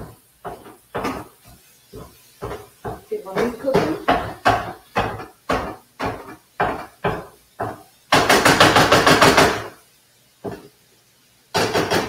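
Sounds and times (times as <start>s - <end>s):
masher knocking meat in skillet: 0.0s - 9.8s, 11.5s - 12.0s.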